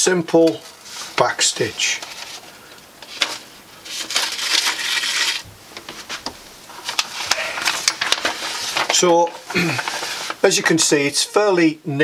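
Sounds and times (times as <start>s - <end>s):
paper rustling and crackling: 0.4s - 10.8s.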